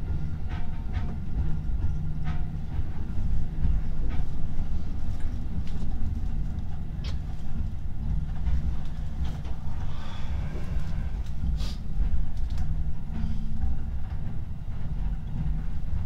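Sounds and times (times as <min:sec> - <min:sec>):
train wheels and motors rumbling: 0:00.0 - 0:16.0.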